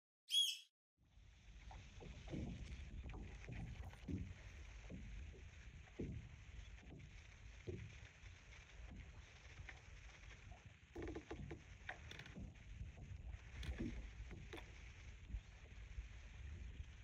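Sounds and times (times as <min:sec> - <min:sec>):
wind rumbling on microphone: 0:01.5 - 0:17.0.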